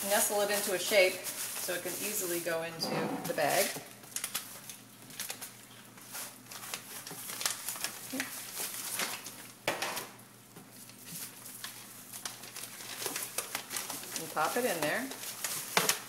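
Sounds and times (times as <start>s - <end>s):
plastic bag crinkling: 0.0s - 2.7s, 3.4s - 9.6s, 10.8s - 16.0s.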